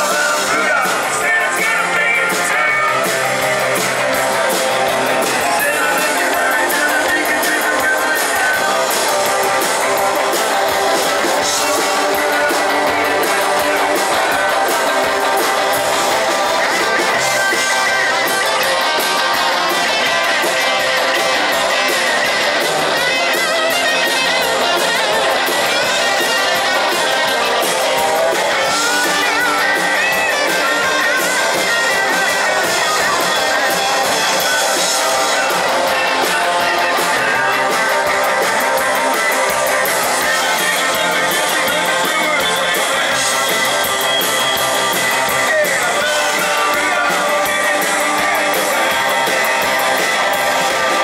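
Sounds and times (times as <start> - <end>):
electric guitars strumming: 0.0 - 51.0
live rock band playing: 0.0 - 51.0.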